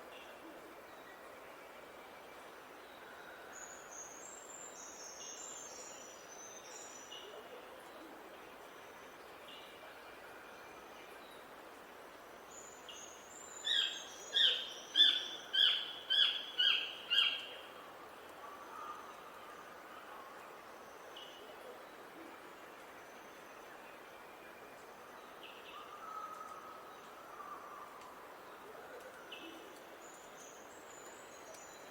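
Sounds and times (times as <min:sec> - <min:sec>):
steady outdoor hiss: 0:00.0 - 0:31.9.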